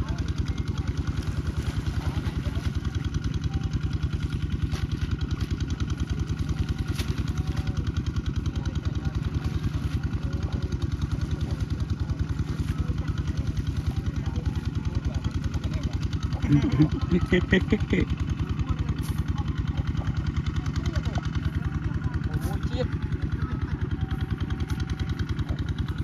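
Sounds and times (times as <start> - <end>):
small engine chugging: 0.0 - 26.0.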